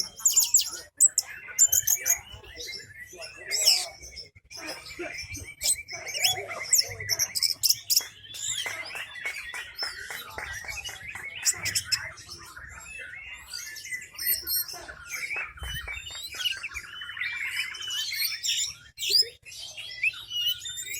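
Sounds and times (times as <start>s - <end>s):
bird singing: 0.0s - 20.9s
steady bird trill: 0.0s - 20.9s.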